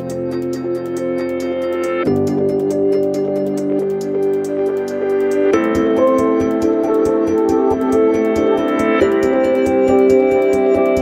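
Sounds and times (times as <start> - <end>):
quick ticking beat: 0.0 - 9.8
synthesizer chords: 0.0 - 11.0.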